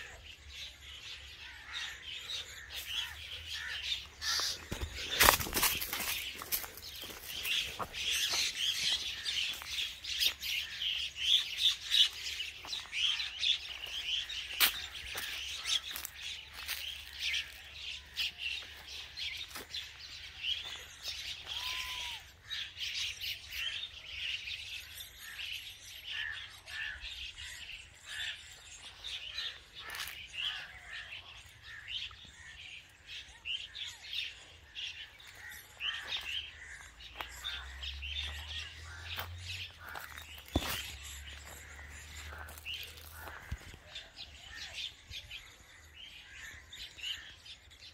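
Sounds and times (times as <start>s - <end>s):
myna birds chirping: 0.0s - 47.9s.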